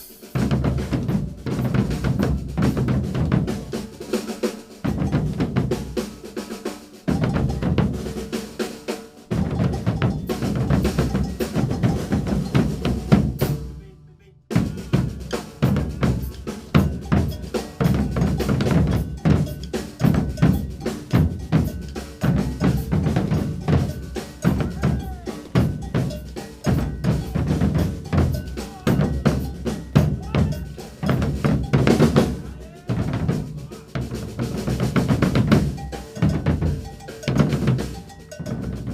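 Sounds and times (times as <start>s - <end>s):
percussion group drumming: 0.0s - 38.9s.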